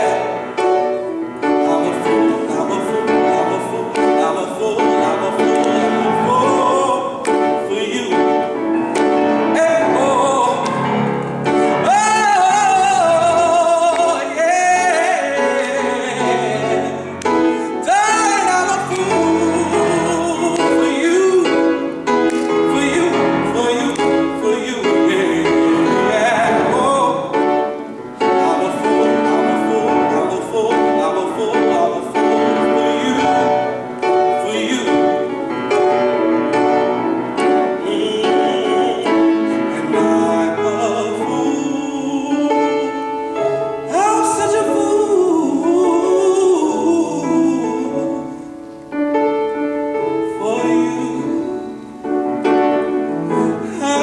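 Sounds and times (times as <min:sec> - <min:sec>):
grand piano: 0:00.0 - 0:54.0
man singing a soul ballad: 0:01.4 - 0:48.7, 0:50.0 - 0:54.0.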